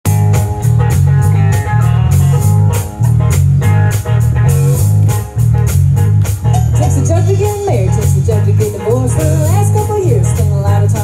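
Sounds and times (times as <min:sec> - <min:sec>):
drum kit beat: 0:00.0 - 0:11.0
electric bass line: 0:00.0 - 0:11.0
electric guitar: 0:00.0 - 0:11.0.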